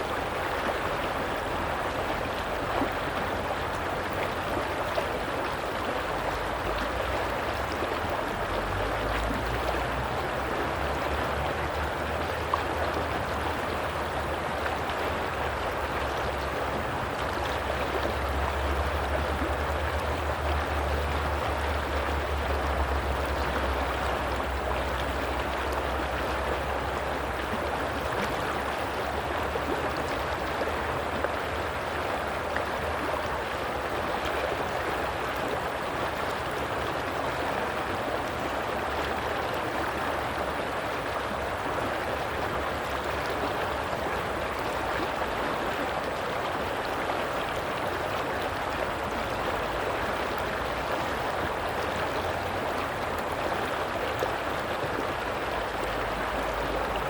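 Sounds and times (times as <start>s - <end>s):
stream water rushing and gurgling: 0.0s - 57.0s.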